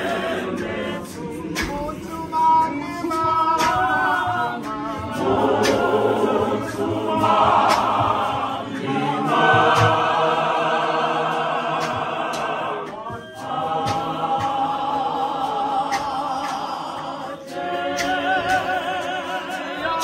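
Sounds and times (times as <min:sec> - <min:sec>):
congregation singing a hymn: 0:00.0 - 0:20.0
sharp beats keeping time: 0:00.0 - 0:20.0.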